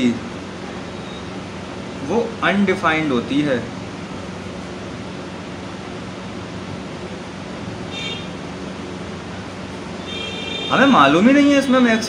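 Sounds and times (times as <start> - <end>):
low steady hum: 0.0 - 12.0
room noise hiss: 0.0 - 12.0.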